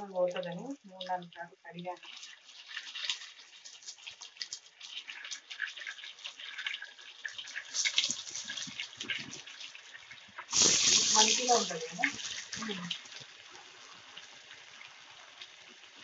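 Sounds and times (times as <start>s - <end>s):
oil sizzling in a pan: 0.0s - 16.0s.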